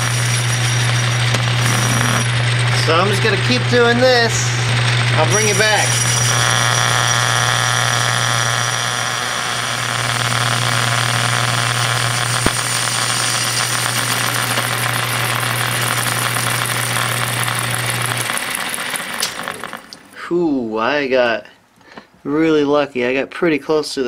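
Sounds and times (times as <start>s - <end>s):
lathe motor hum: 0.0s - 20.1s.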